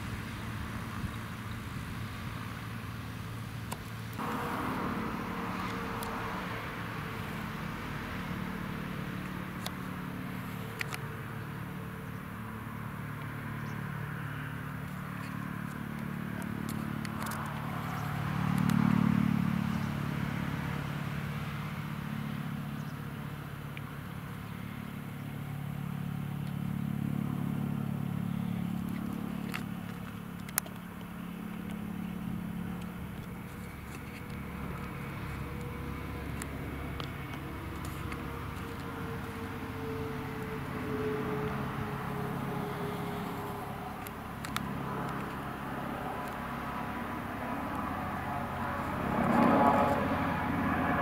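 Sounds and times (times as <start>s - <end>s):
distant helicopter drone: 0.0s - 51.0s.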